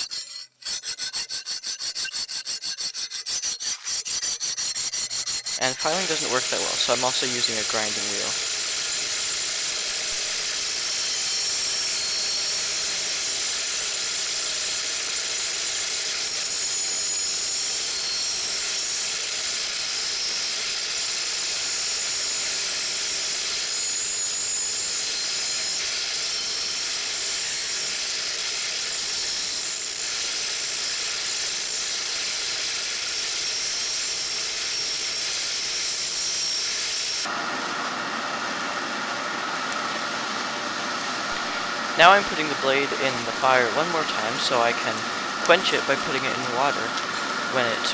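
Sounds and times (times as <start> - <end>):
blade grinding on grinding wheel: 0.0 - 47.9.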